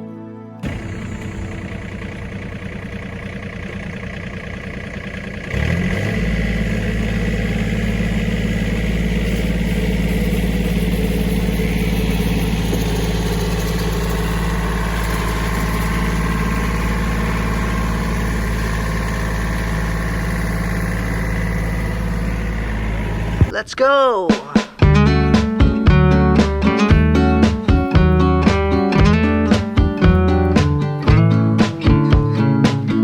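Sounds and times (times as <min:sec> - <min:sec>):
heavy engine running: 0:00.6 - 0:23.6, 0:24.8 - 0:32.9.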